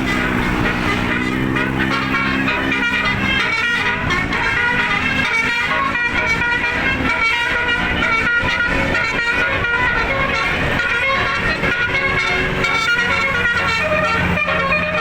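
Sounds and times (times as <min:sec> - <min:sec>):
musical bus air horn: 0:00.0 - 0:15.0.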